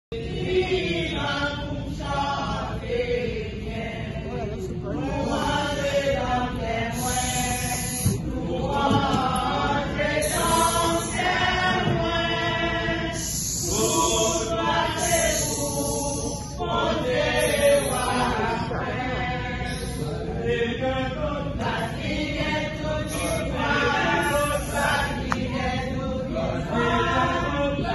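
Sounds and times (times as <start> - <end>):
church choir singing: 0.2 - 27.9.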